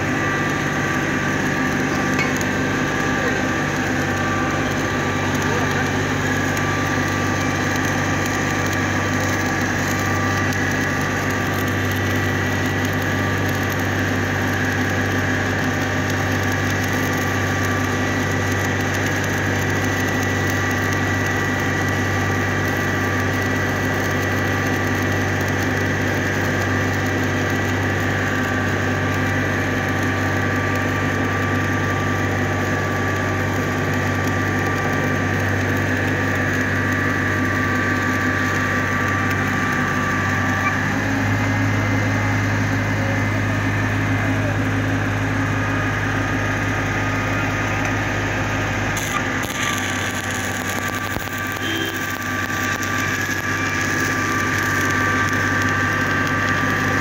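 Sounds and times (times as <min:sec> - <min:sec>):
machine hum: 0:00.0 - 0:57.0
welding arc crackling: 0:00.0 - 0:57.0.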